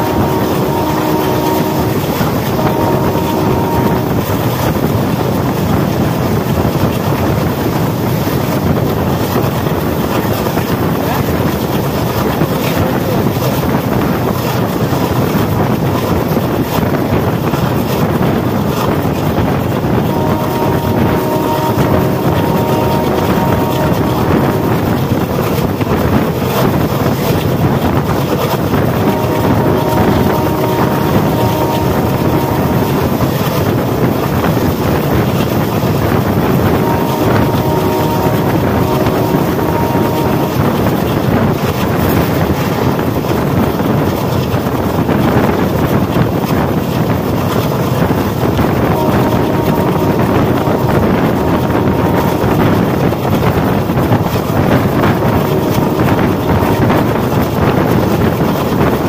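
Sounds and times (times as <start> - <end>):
locomotive horn blasts: 0.0 - 9.5, 16.4 - 43.9, 48.1 - 59.0
fast train running noise: 0.0 - 59.0.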